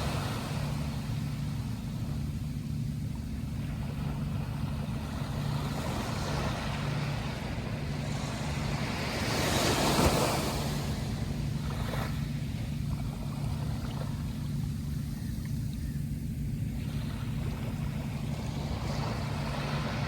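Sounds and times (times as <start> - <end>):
sea waves washing: 0.0 - 2.5, 3.3 - 20.0
low engine drone: 0.0 - 20.0.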